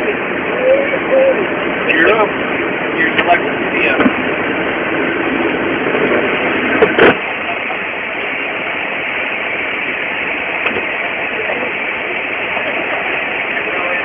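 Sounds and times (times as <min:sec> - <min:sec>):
jet engines and airflow rushing: 0:00.0 - 0:14.0.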